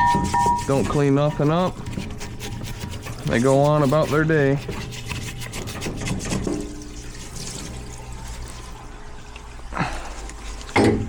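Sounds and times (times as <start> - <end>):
solvent splashing in parts washer: 0.0 - 11.0.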